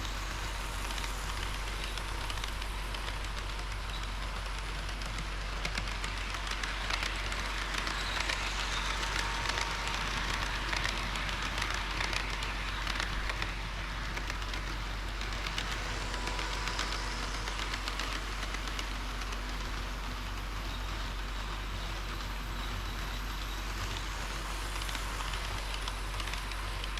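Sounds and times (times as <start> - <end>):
model train rolling hiss: 0.0 - 26.9
wheels clicking on track: 0.0 - 26.9.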